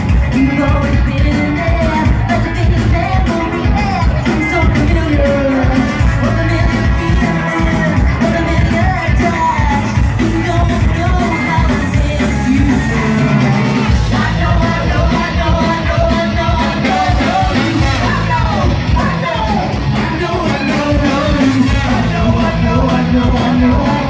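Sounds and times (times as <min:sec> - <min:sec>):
live ska band playing: 0:00.0 - 0:24.0.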